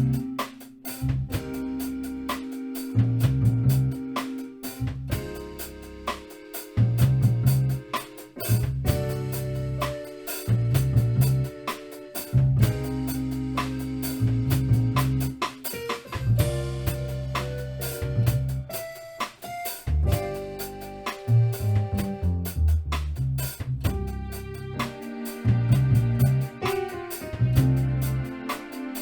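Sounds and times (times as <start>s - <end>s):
instrumental music with drums: 0.0s - 29.0s.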